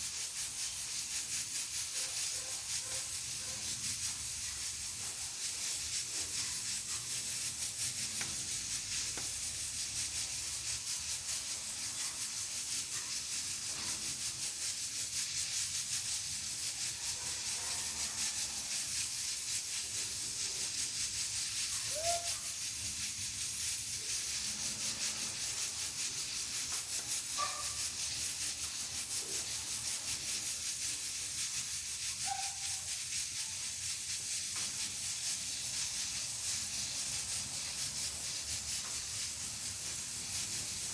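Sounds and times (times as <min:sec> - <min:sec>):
pressure cooker hissing steam: 0:00.0 - 0:40.9.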